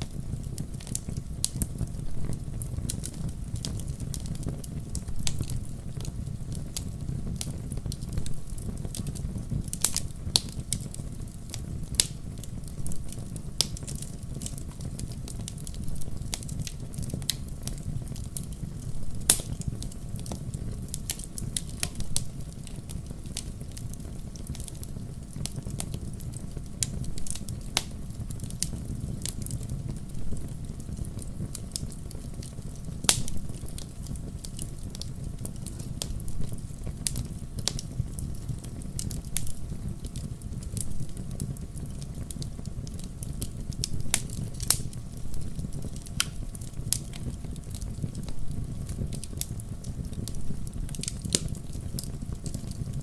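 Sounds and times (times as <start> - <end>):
burning wood popping and crackling: 0.0 - 53.0
campfire flames rumbling: 0.0 - 53.0.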